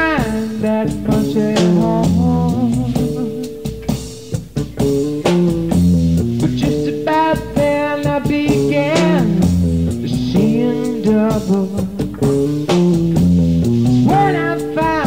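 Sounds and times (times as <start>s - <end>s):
bass guitar: 0.0s - 15.0s
drums: 0.0s - 15.0s
electric guitar: 0.0s - 15.0s.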